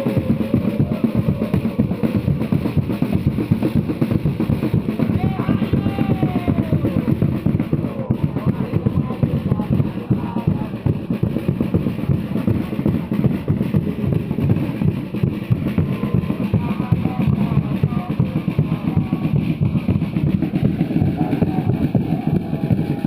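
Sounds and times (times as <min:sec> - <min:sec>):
crowd chanting: 0:00.0 - 0:23.0
fast steady drumming: 0:00.0 - 0:23.0.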